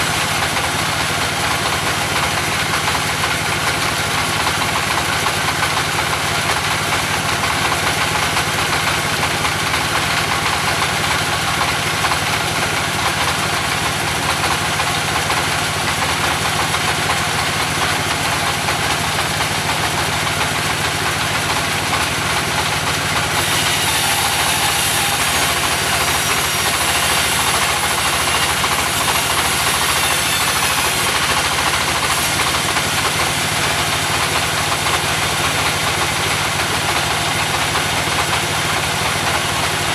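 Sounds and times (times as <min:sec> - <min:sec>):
sawmill engine knocking: 0:00.0 - 0:39.9.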